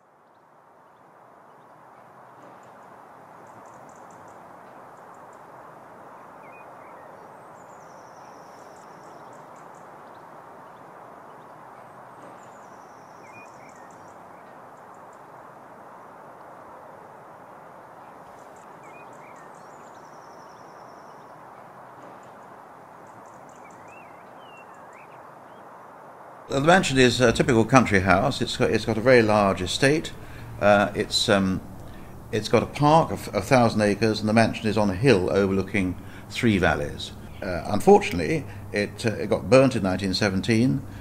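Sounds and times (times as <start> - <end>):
steady background noise: 0.0 - 41.0
songbird singing with trill: 0.2 - 15.3, 18.0 - 25.6, 26.6 - 39.8
lower bird chirps: 0.2 - 15.4, 18.0 - 25.7, 26.6 - 39.8.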